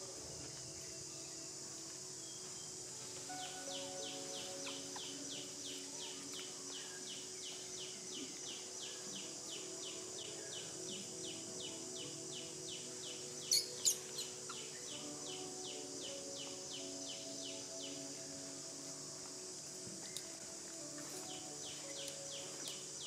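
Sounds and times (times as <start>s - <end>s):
insects hissing: 0.0s - 23.0s.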